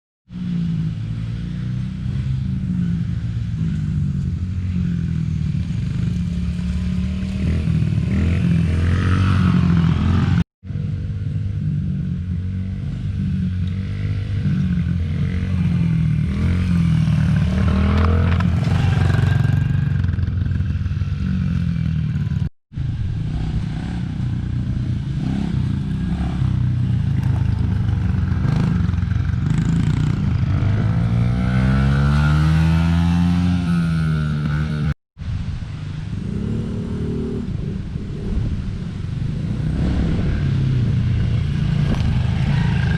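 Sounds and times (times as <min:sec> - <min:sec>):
dirt bike engine revving: 0:00.3 - 0:10.4, 0:11.6 - 0:35.0, 0:36.1 - 0:42.9.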